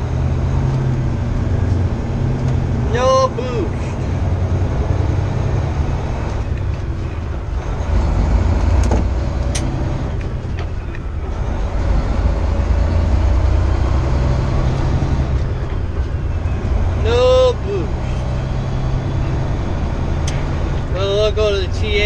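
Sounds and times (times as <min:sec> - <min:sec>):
diesel truck engine rumble: 0:00.0 - 0:22.0
road noise: 0:00.0 - 0:22.0.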